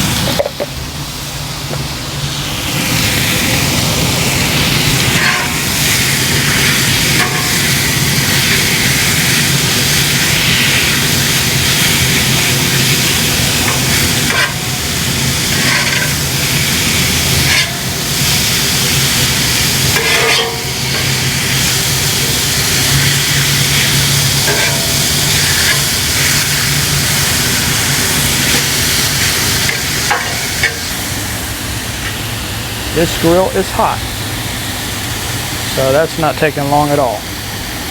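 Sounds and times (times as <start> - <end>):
steak sizzling on griddle: 0.0 - 37.9.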